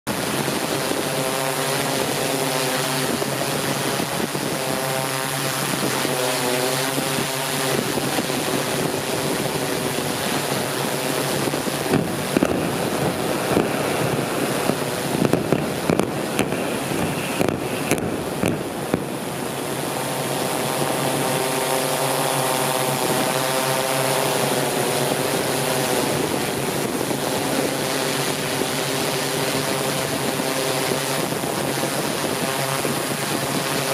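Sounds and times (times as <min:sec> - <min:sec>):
drone propellers whining: 0:00.1 - 0:33.9.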